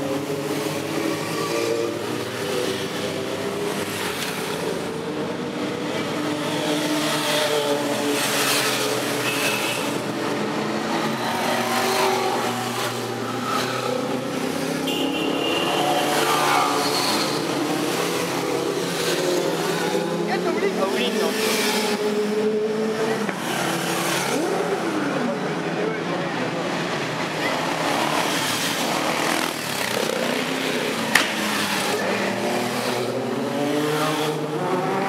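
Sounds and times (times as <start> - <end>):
motorcycles passing at low speed: 0.0 - 35.0.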